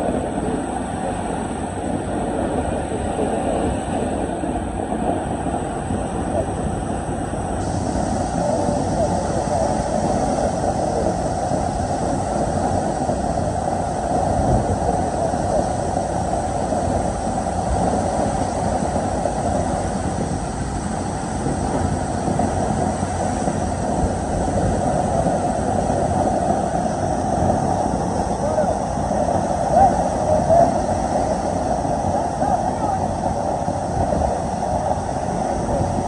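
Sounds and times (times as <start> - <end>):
water gushing from hydrant: 0.0 - 36.0.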